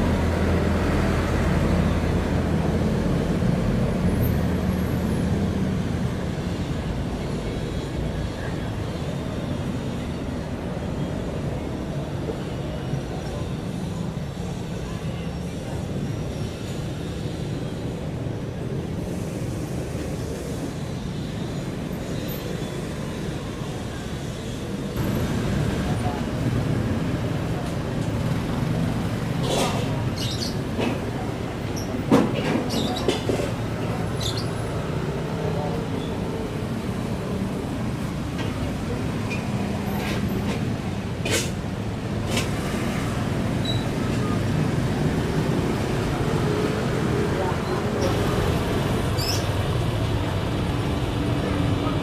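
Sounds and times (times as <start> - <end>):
low rumble of vehicle noise: 0.0 - 52.0.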